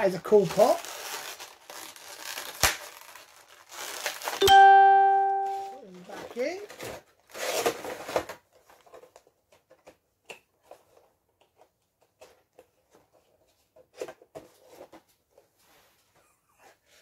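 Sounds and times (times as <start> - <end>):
cardboard and plastic rustling: 0.0 - 4.4, 6.0 - 16.1.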